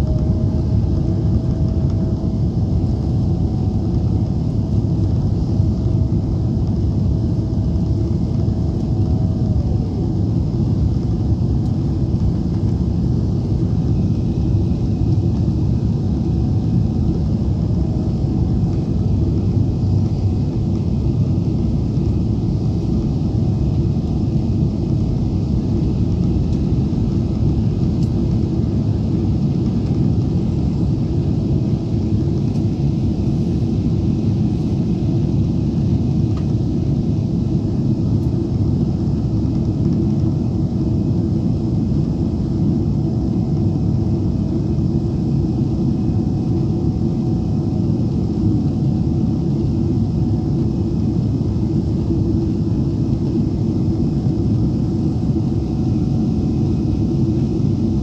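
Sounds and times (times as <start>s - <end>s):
faint cabin hum: 0.0s - 58.0s
jet engine and airflow drone: 0.0s - 58.0s.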